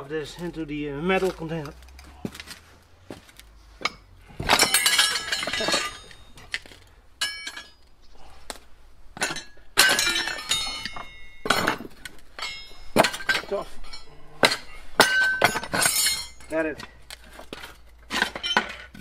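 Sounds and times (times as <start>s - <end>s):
clogs stamping on scrap metal: 1.0s - 19.0s
scrap metal clanking: 1.1s - 19.0s.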